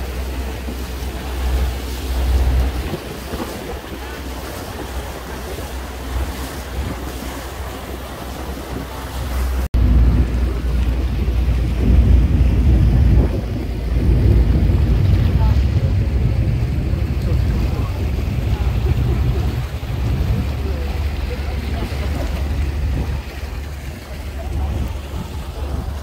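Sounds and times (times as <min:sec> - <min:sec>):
boat engine rumble: 0:00.0 - 0:26.0
water rushing past a hull: 0:00.0 - 0:26.0
wind buffeting the microphone: 0:00.0 - 0:26.0.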